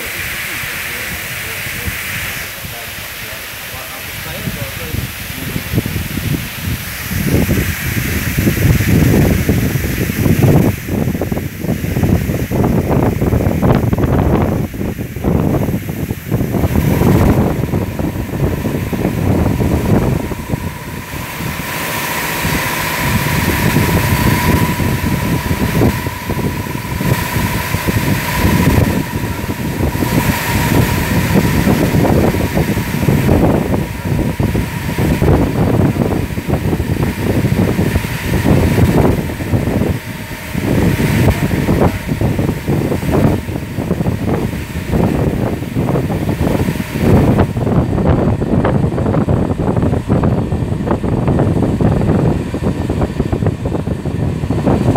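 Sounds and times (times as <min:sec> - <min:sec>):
high-pressure water spray hissing: 0:00.0 - 0:50.4
car wash machine whine: 0:00.0 - 0:54.9.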